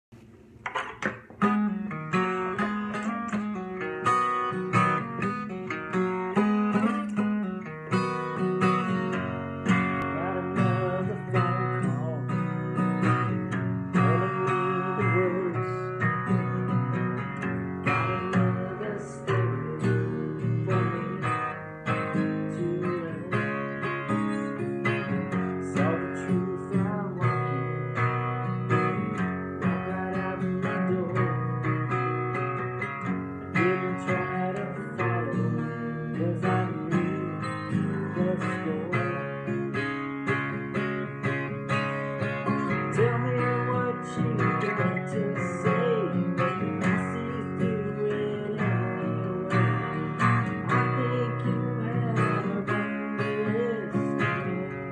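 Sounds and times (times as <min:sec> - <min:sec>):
acoustic guitar strumming and picking: 0:00.1 - 0:54.9.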